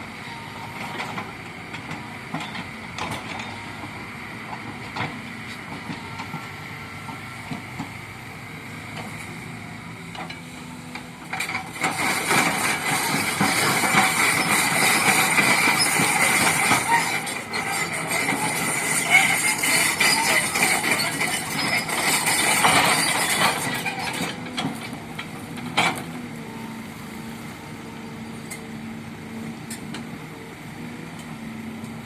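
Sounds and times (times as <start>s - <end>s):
excavator engine running: 0.0s - 32.0s.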